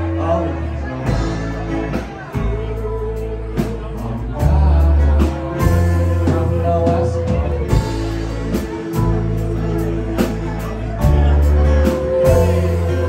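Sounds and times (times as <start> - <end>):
acoustic guitars: 0.0 - 13.0
drums: 0.0 - 13.0
electric bass: 0.0 - 13.0
singing with harmony voices: 0.0 - 13.0.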